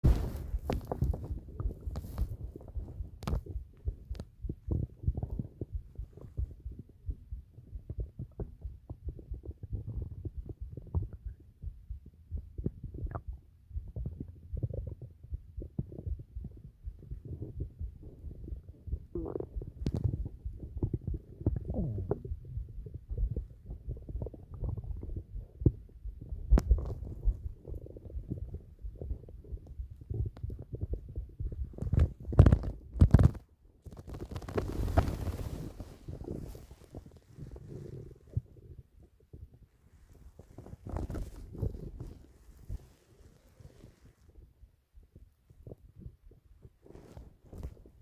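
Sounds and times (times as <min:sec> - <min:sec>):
stomach rumbling and gurgling: 0:00.0 - 0:48.0.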